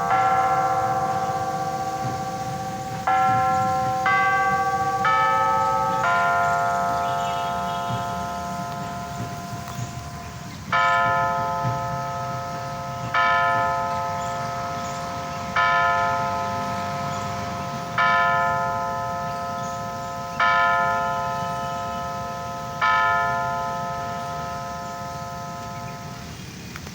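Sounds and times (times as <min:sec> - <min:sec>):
bell ringing: 0:00.0 - 0:26.4.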